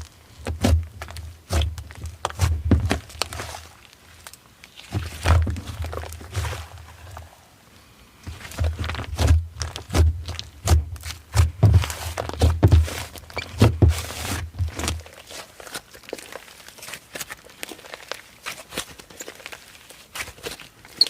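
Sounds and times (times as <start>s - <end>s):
slime squishing with sticky clicks: 0.0s - 7.2s, 8.3s - 21.0s.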